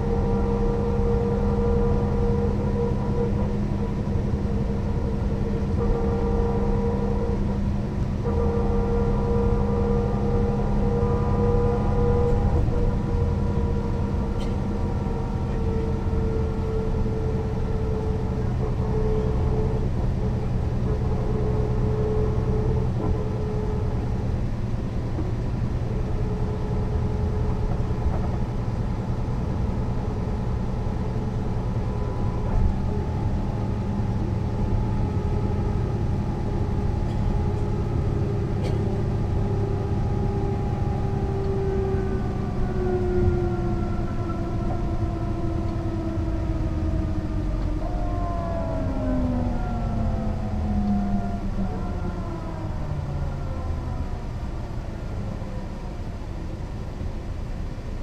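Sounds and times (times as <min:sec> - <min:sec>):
bus diesel engine drone: 0:00.0 - 0:58.0
bus whine: 0:00.0 - 0:58.0.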